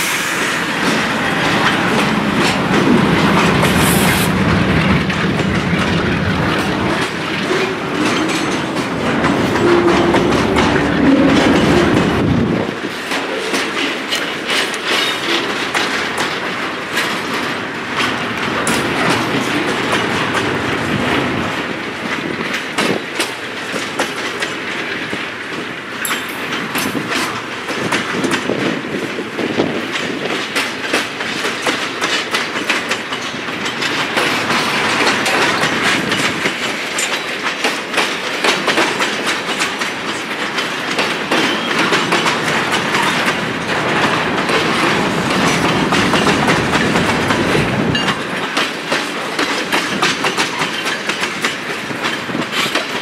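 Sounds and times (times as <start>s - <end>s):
freight train wheels rumbling: 0.0s - 53.0s
wheels clicking over rail joints: 0.8s - 53.0s.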